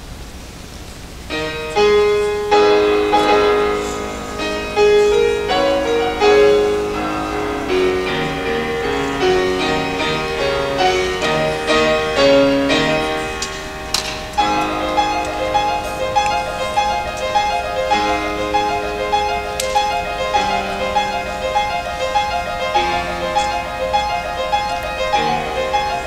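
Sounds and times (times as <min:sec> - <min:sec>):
faint hall hum: 0:00.0 - 0:26.0
grand piano playing: 0:01.3 - 0:26.0.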